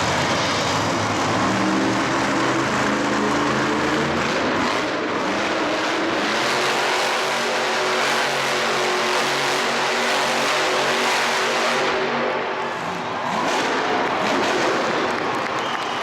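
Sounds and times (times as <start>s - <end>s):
arena noise: 0.0s - 16.0s
racing engine running: 0.0s - 16.0s.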